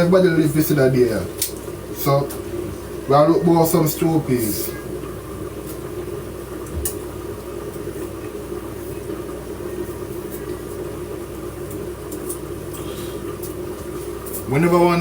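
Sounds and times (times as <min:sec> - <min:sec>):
pot boiling and bubbling: 0:00.0 - 0:15.0.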